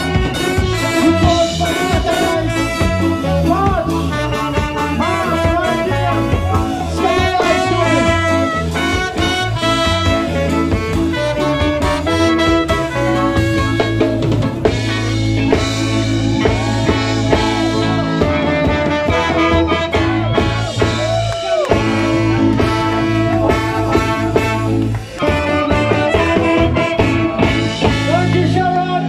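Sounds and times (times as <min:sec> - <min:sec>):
bass: 0:00.0 - 0:29.0
drum kit: 0:00.0 - 0:29.0
electric guitar: 0:00.0 - 0:29.0.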